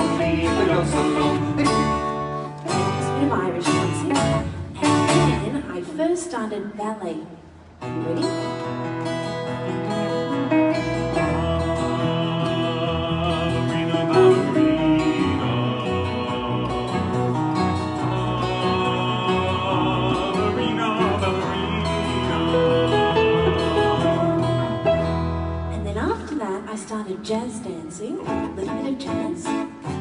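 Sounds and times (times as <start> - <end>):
live band instrumental tune: 0.0 - 5.8, 7.7 - 18.3, 20.8 - 30.0.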